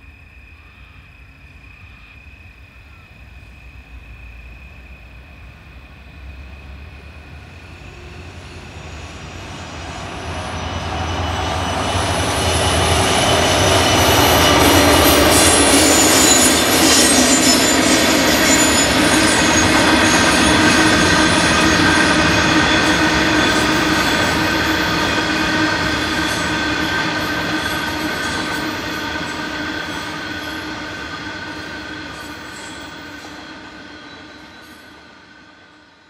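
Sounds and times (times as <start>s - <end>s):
train rumbling: 0.0s - 36.0s
train wheels squealing: 0.0s - 36.0s.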